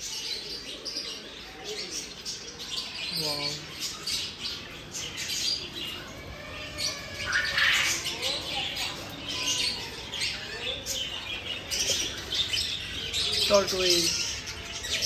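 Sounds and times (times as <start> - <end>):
caged birds chirping and squawking: 0.0 - 15.0.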